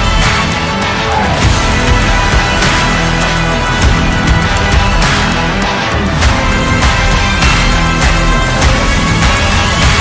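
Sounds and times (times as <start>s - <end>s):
heavy bass music: 0.0s - 10.0s.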